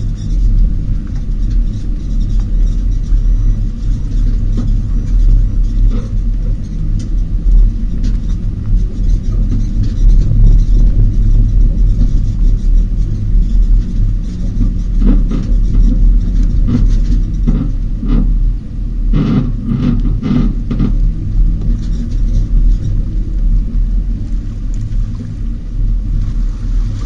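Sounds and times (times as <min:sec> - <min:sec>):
vehicle engine low rumble: 0:00.0 - 0:27.0.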